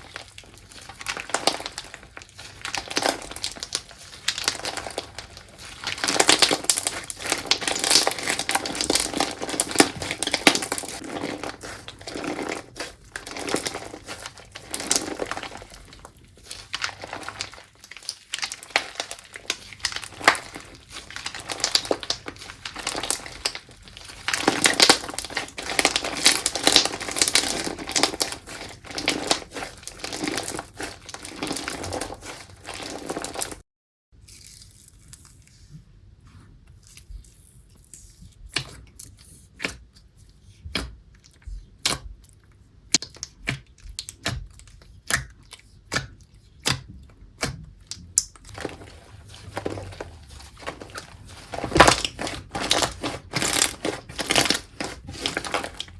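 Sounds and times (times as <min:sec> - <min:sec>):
slime crackling and popping: 0:00.0 - 0:33.6, 0:42.8 - 0:55.9.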